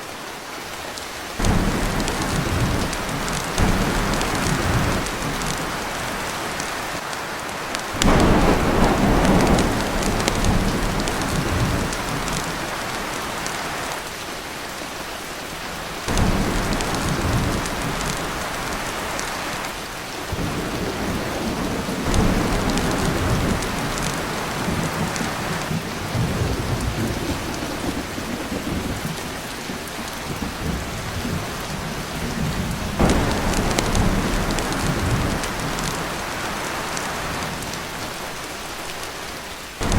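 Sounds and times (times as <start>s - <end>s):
rain drumming on a tin roof: 0.0s - 39.9s
thunder rumbling: 1.4s - 7.0s, 7.8s - 13.5s, 16.1s - 19.5s, 20.3s - 38.2s.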